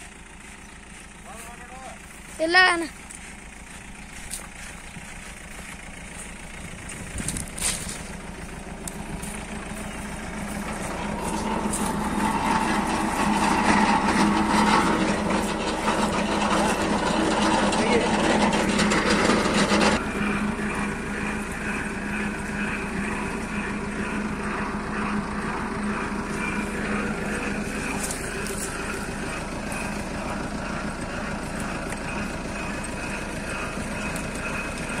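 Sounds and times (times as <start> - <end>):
motor humming: 0.0 - 35.0.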